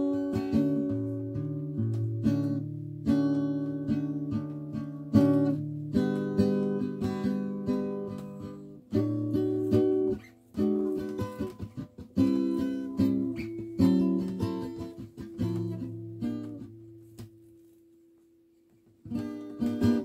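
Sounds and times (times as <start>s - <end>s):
acoustic guitar picking: 0.0s - 17.5s, 19.0s - 20.0s.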